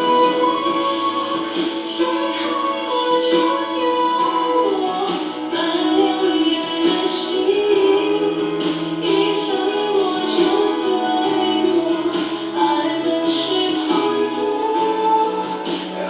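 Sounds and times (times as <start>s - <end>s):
instrumental backing: 0.0s - 16.0s
woman singing pop song: 0.0s - 16.0s.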